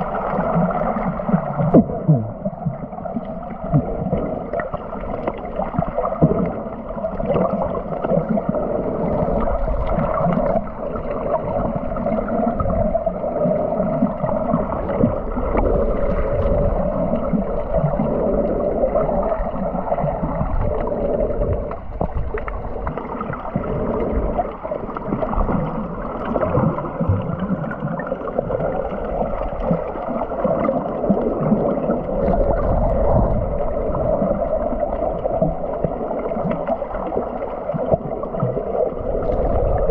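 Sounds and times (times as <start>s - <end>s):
muffled underwater water rushing: 0.0s - 39.9s.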